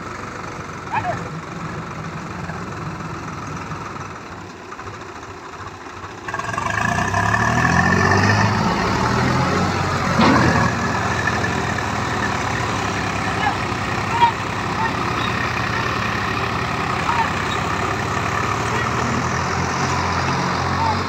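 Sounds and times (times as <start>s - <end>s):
tractor diesel engine revving: 0.0s - 21.0s.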